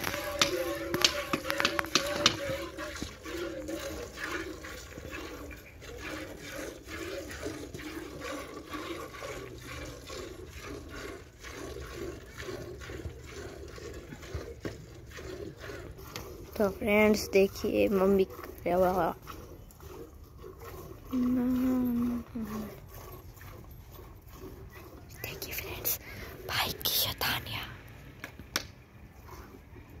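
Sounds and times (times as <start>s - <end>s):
milk squirting into a bucket: 0.0s - 26.5s.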